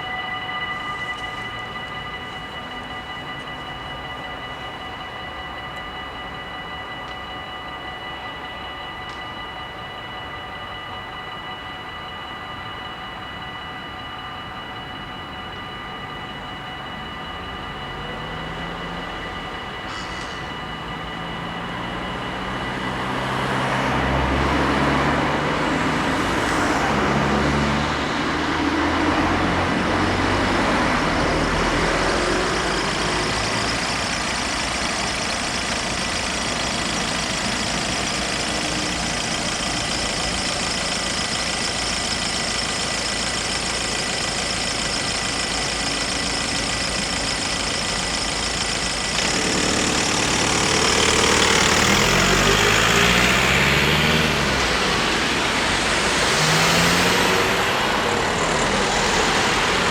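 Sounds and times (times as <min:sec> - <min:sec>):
level crossing warning bells: 0:00.0 - 0:59.9.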